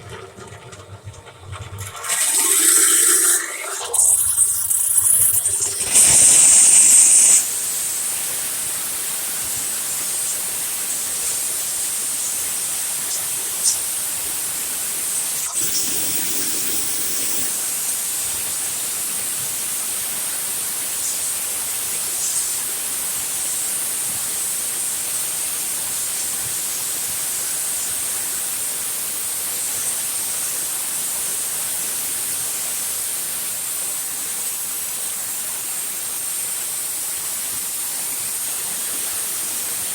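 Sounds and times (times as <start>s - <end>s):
steamer hissing: 1.7s - 39.9s.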